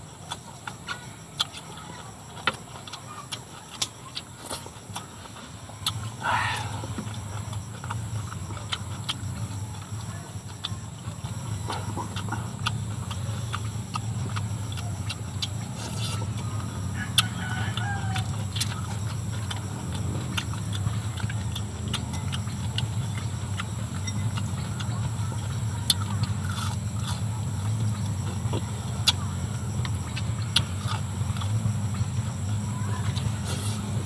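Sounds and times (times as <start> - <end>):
chewing and lip-smacking: 0.0 - 34.0
chicken clucking: 0.2 - 34.0.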